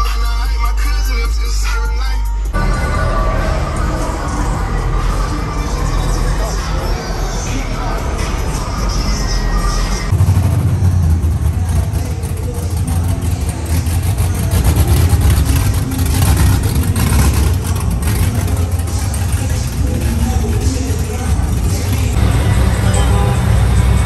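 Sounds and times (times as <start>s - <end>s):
vehicle engine running: 2.6s - 24.0s.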